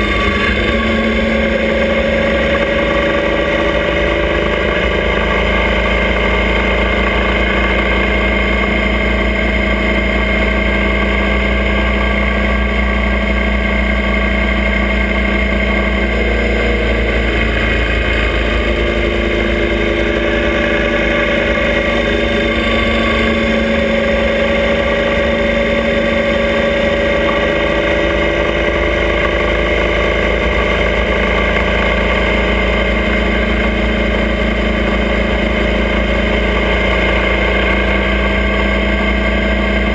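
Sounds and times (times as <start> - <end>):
road and wind noise: 0.0 - 34.2
motorcycle engine running: 0.0 - 39.9.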